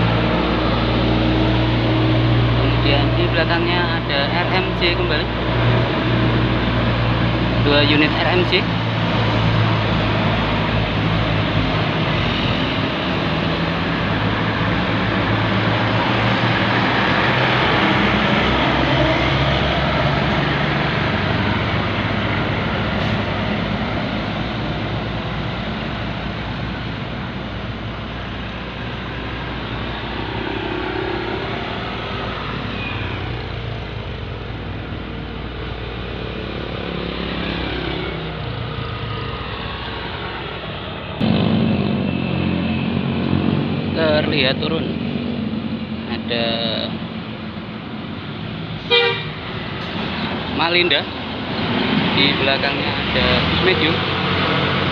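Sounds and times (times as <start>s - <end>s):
bus engines passing: 0.0s - 54.9s
road traffic: 0.0s - 54.9s.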